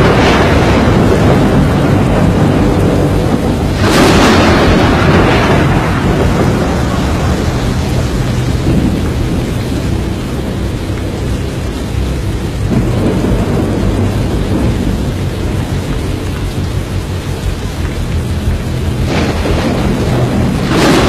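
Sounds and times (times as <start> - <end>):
deep rumble of wind: 0.0 - 21.0
rain-like hiss: 0.0 - 21.0.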